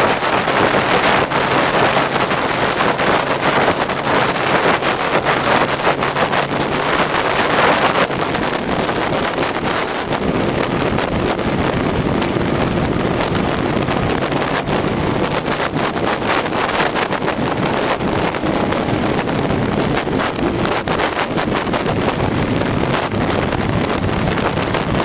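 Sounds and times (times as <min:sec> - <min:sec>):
outboard motor running: 0:00.0 - 0:25.0
wind noise on microphone: 0:00.0 - 0:25.0.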